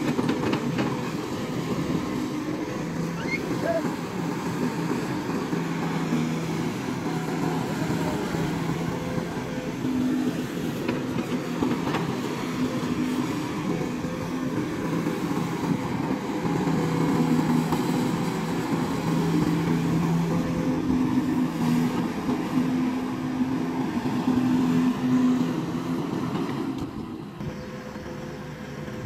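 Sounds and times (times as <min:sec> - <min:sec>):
excavator diesel engine humming: 0:00.0 - 0:29.0.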